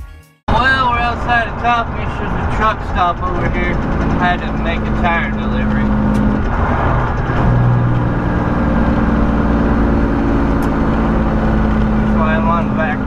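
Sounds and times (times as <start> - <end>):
road noise inside cab: 0.5 - 13.0
truck diesel engine droning: 0.5 - 13.0.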